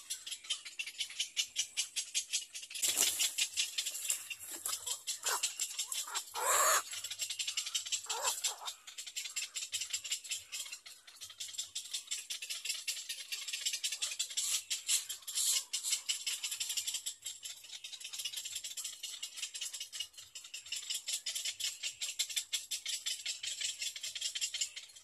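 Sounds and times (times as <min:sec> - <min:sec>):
chicks clicking rattle: 0:00.0 - 0:25.0.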